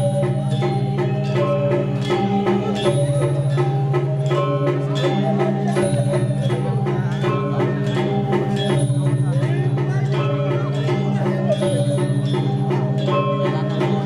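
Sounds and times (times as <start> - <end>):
gamelan playing: 0.0 - 14.0.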